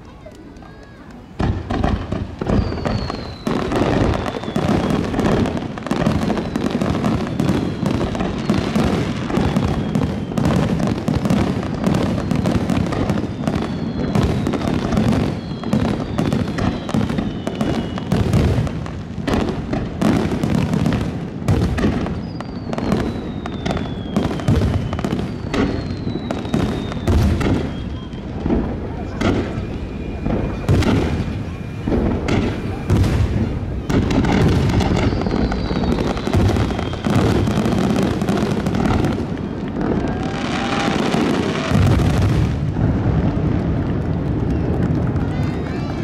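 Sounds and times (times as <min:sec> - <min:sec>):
crackling firework stars: 0:00.0 - 0:46.0
firework whistles gliding down: 0:00.3 - 0:43.4.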